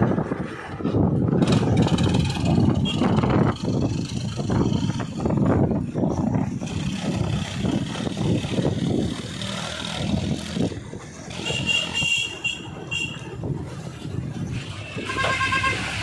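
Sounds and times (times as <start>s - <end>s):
heavy machinery diesel engine rumbling: 0.0s - 16.0s.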